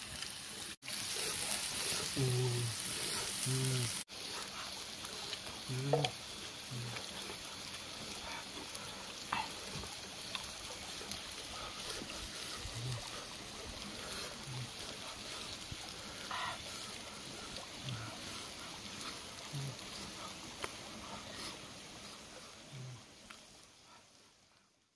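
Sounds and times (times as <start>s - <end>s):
shallow stream trickling: 0.0s - 24.5s.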